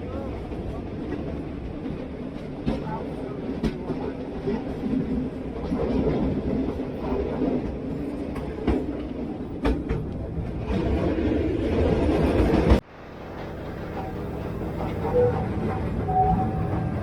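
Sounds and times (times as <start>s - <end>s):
tram rumbling and rattling: 0.0s - 17.0s.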